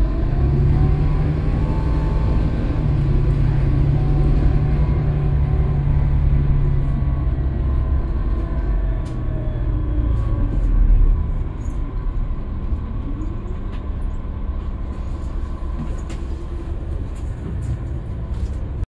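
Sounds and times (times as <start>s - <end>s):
bus diesel engine rumbling: 0.0s - 18.9s.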